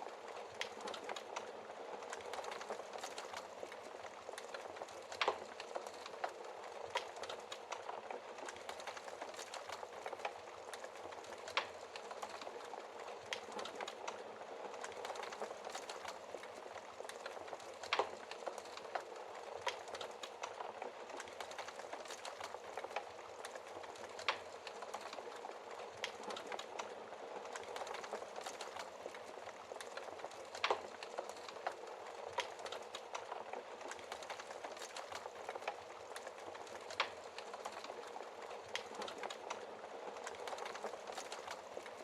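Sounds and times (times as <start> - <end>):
wood fire crackling: 0.0 - 42.0
burning wood popping: 0.6 - 14.2, 14.8 - 42.0.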